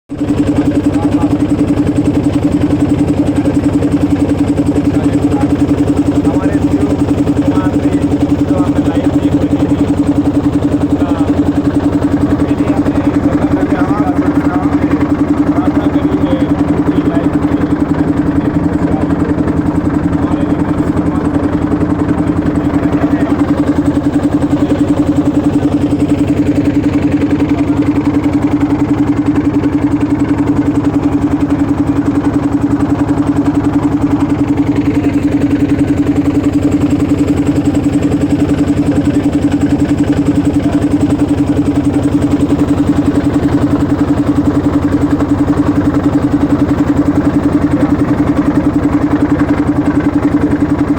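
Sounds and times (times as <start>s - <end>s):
boat engine running: 0.1s - 50.9s.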